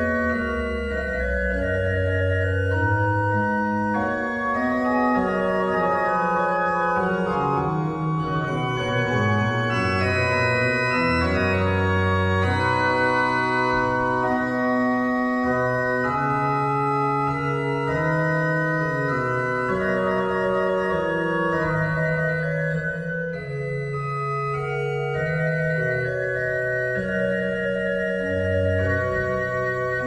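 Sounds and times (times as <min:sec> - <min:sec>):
pipe organ chords: 0:00.0 - 0:30.0.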